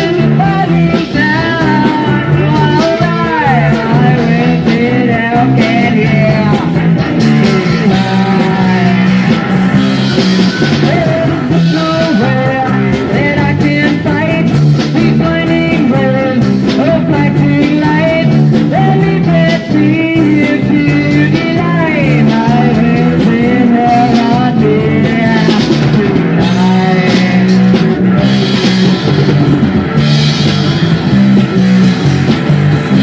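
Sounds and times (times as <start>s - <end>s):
person singing: 0.0s - 28.7s
bass guitar: 0.0s - 33.0s
drums: 0.0s - 33.0s
electric guitar: 0.0s - 33.0s.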